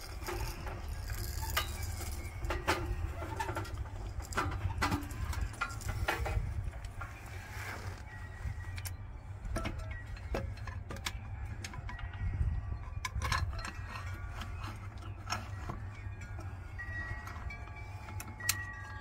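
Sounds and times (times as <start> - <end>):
low wind rumble on microphone: 0.0 - 19.0
wind chimes ringing: 0.0 - 19.0.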